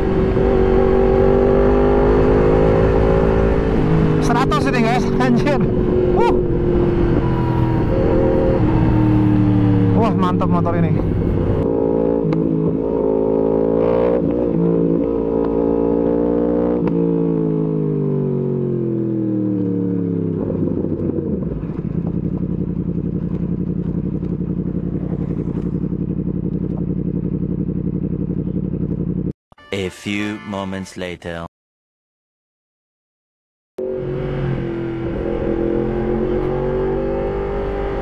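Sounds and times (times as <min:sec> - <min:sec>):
motorcycle engine revving: 0:00.0 - 0:29.4, 0:33.8 - 0:38.0.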